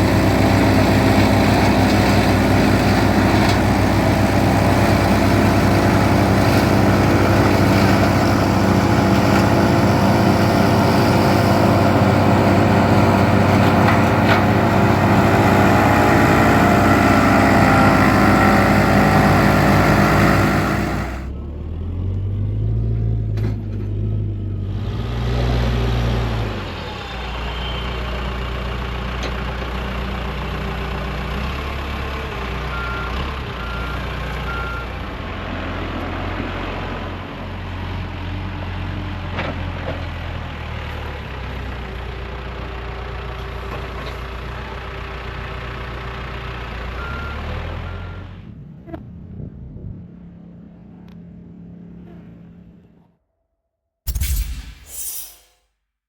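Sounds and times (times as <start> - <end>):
tractor engine running wood chipper: 0.0 - 22.4, 23.0 - 48.2.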